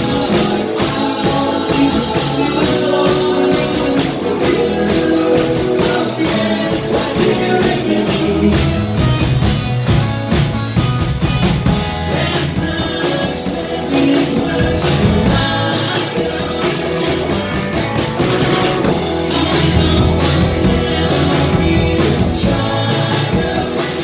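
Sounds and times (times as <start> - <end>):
lead vocal singing: 0.0 - 9.2, 11.8 - 24.0
drums with steady beat: 0.0 - 24.0
electric guitars: 0.0 - 24.0
keyboard: 0.0 - 24.0.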